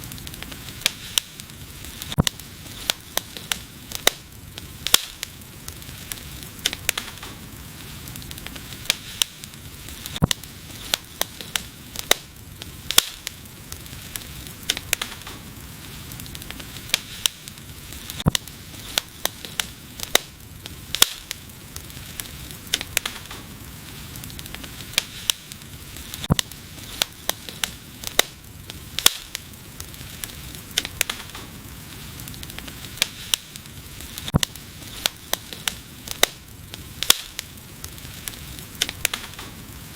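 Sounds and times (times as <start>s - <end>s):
flames hissing: 0.0s - 39.9s
wood fire crackling and popping: 0.0s - 39.9s.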